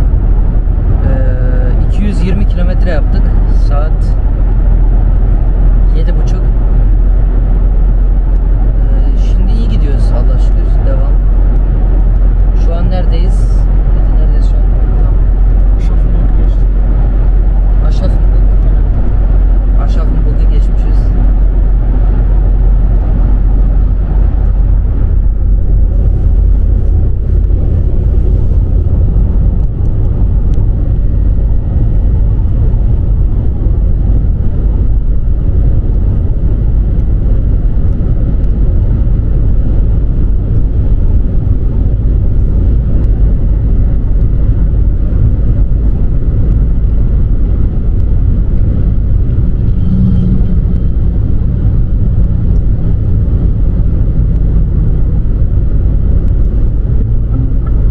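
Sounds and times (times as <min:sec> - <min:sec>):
tyre and wind noise: 0:00.0 - 0:57.9.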